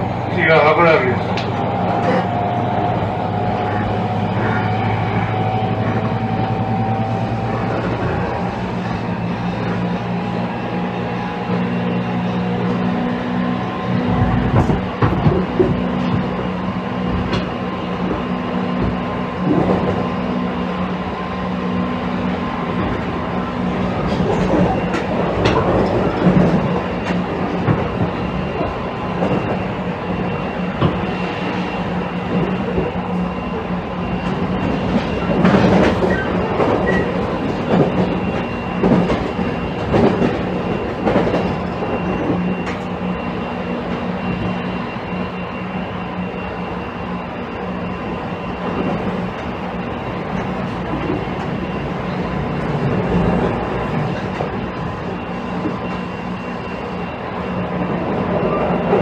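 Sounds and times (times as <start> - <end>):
train motor humming: 0.0 - 59.0.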